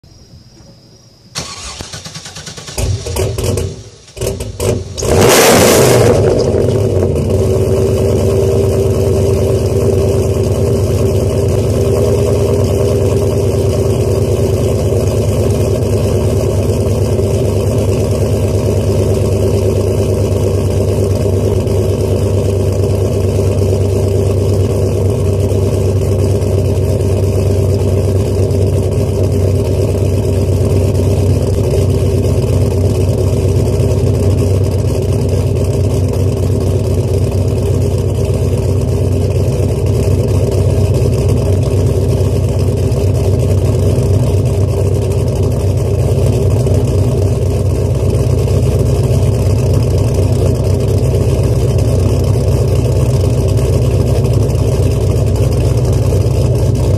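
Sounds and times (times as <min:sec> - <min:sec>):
car engine idling: 0:01.4 - 0:56.9.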